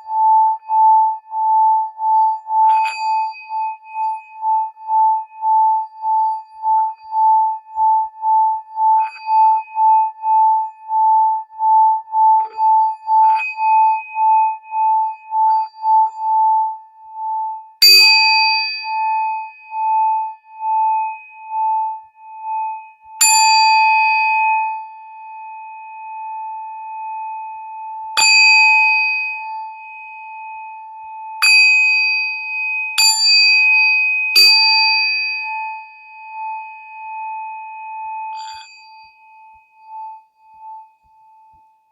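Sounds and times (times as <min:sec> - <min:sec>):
metal singing bowl ringing: 0:00.0 - 0:24.8, 0:28.0 - 0:41.0.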